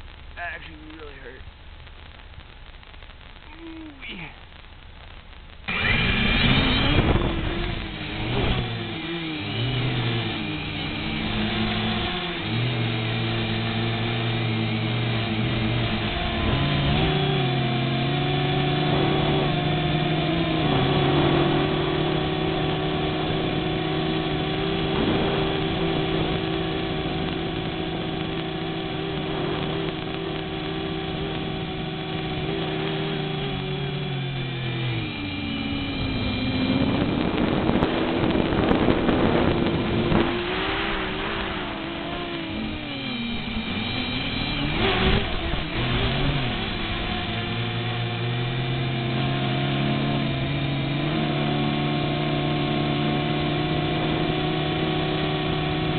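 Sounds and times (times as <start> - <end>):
quadcopter motors whining: 5.7 - 55.9.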